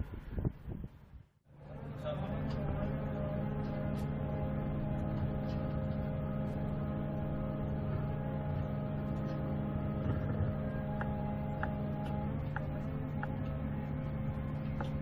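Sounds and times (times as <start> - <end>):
heavy loader engine humming: 1.4 - 15.0.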